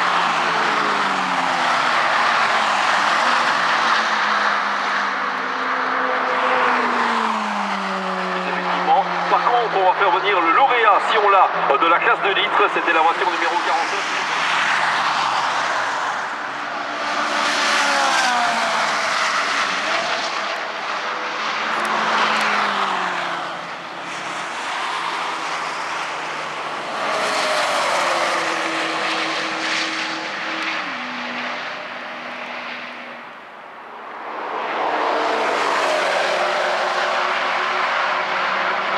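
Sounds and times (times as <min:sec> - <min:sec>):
racing cars passing at speed: 0:00.0 - 0:38.9.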